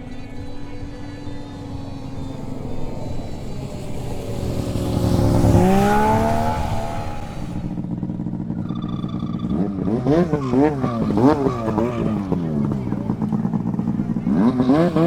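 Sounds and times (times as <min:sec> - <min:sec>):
snowmobile engine speeding up: 0:00.0 - 0:15.0.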